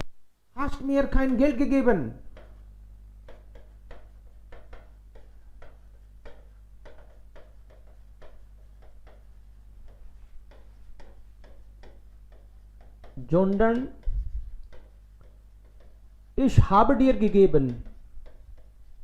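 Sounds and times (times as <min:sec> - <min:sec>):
low electrical hum: 0:00.0 - 0:19.0
pen tapping while writing: 0:02.2 - 0:19.0.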